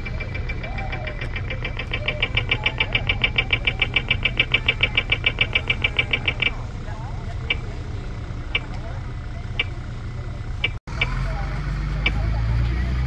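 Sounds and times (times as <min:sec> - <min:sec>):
crossing signal ticking rapidly: 0:00.0 - 0:12.7
low rumble of traffic: 0:00.0 - 0:13.0.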